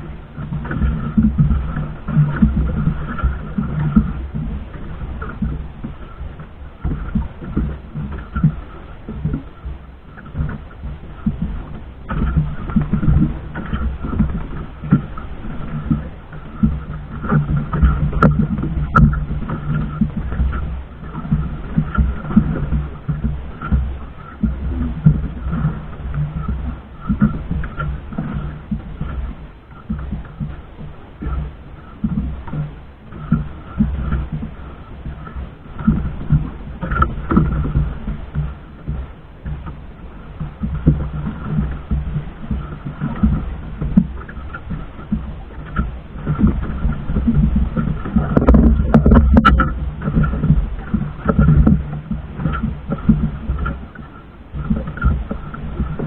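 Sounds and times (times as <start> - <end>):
boat engine humming: 0.0 - 56.0
steady rumble: 0.0 - 56.0
water noise: 0.0 - 56.0
wind: 0.0 - 56.0.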